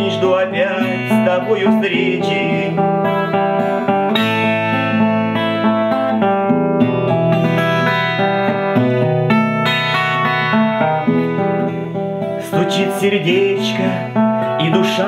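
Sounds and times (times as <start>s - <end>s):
instrumental backing music: 0.0s - 15.0s.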